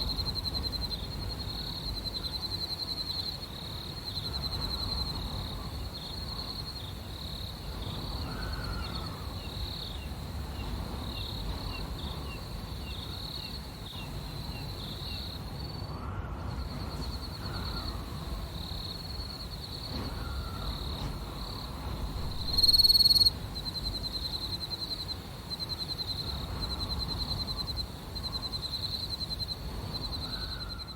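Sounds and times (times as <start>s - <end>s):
crickets chirping: 0.0s - 30.9s
low wind rumble: 0.0s - 30.9s.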